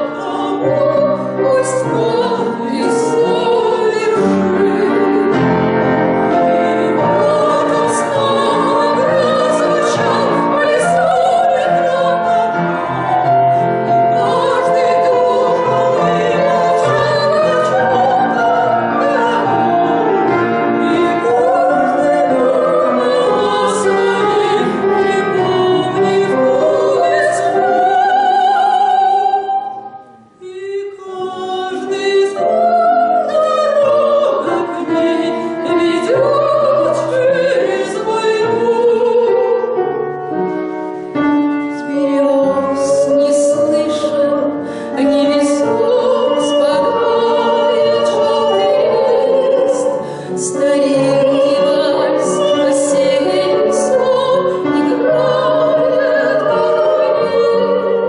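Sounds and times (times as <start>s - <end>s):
piano accompaniment: 0.0s - 58.0s.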